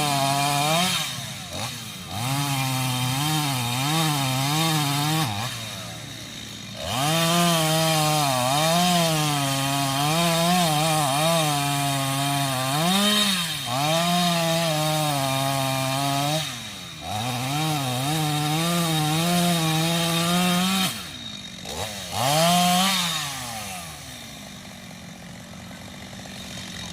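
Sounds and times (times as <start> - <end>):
chainsaw cutting wood: 0.0 - 26.9.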